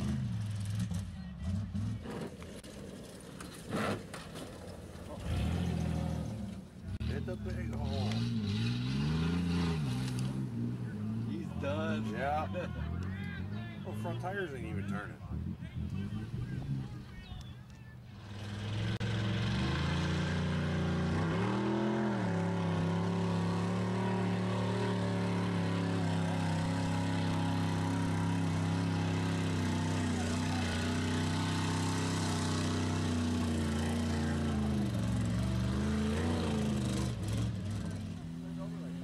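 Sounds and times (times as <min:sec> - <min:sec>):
truck engine revving hard: 0:00.0 - 0:02.4, 0:05.1 - 0:17.0, 0:18.2 - 0:39.0.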